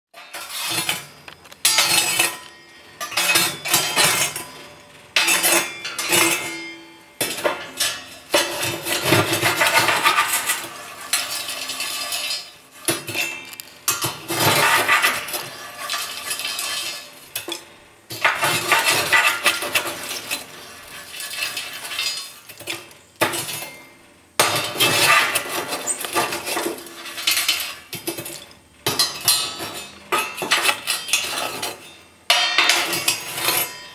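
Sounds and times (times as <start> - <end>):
coals and ash rattling: 0.1 - 33.9
metal screen scraping in stove: 0.1 - 33.9.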